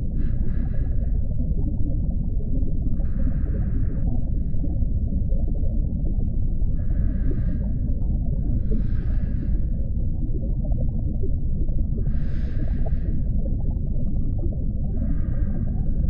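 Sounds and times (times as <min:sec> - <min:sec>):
deep underwater rumble: 0:00.0 - 0:16.0.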